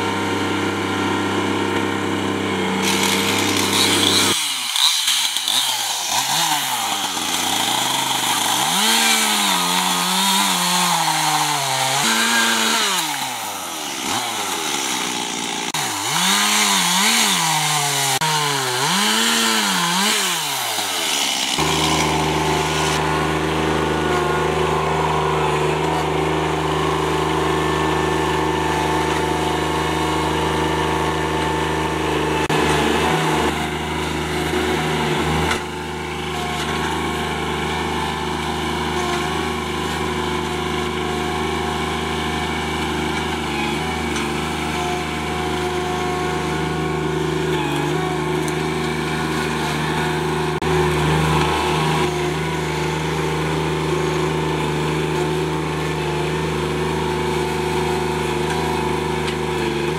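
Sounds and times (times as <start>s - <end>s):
tractor diesel engine running: 0.0s - 4.6s, 5.5s - 59.9s.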